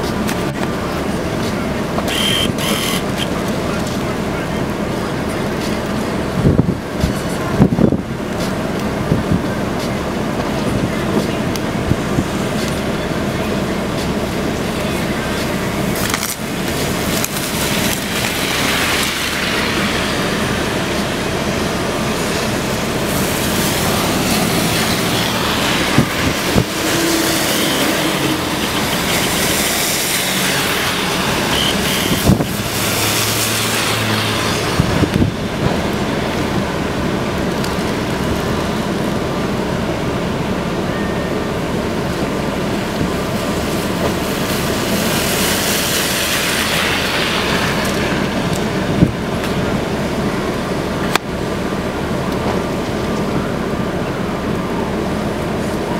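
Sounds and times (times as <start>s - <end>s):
hurricane wind: 0.0s - 55.9s
rain: 0.0s - 55.9s.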